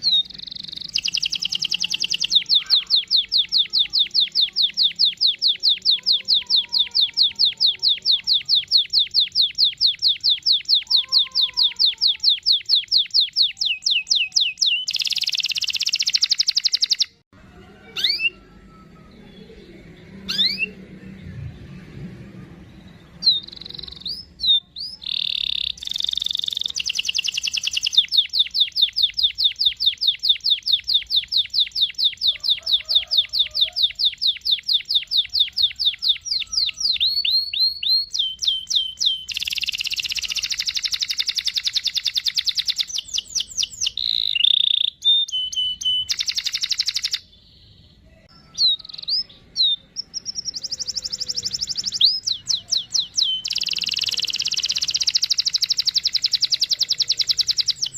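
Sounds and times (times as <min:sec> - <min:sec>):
canary singing trills: 0:00.0 - 0:21.2, 0:22.5 - 0:57.9.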